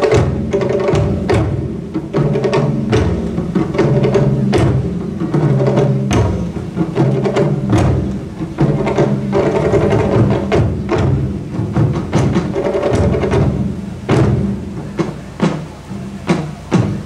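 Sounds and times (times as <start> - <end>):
deep booming drum strokes: 0.0 - 17.0.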